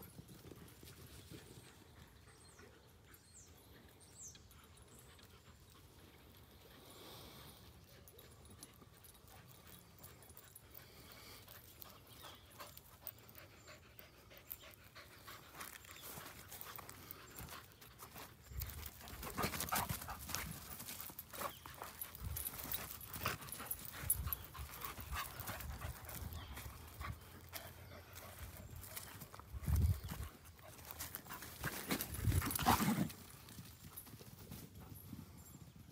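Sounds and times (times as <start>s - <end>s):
dogs panting: 0.0s - 35.6s.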